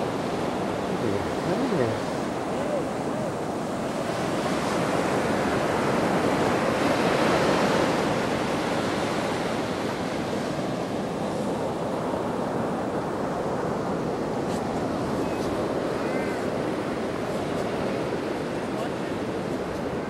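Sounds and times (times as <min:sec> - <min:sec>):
waves rushing: 0:00.0 - 0:20.0
wind: 0:00.0 - 0:20.0.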